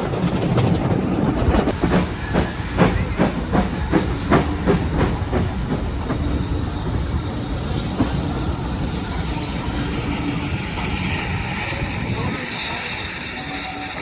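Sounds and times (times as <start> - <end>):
train rumbling on track: 0.0 - 14.0
steam locomotive exhaust beats: 1.4 - 14.0
steam hiss: 1.7 - 14.0.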